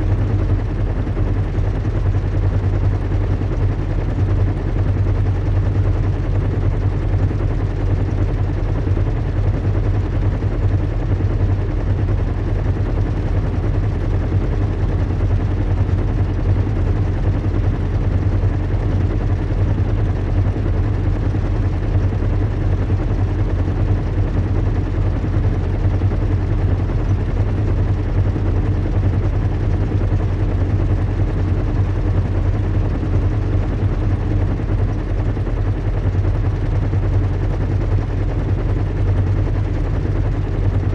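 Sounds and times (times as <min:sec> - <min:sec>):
low rumble of airship engines: 0:00.0 - 0:40.9.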